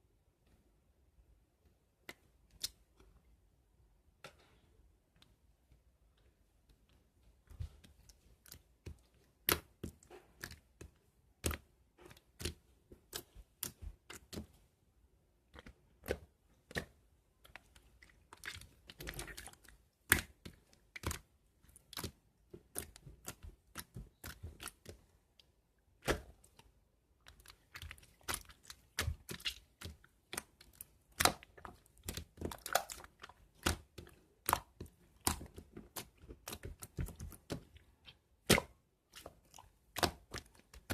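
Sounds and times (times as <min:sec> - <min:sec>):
slime squelching: 0:06.1 - 0:40.9.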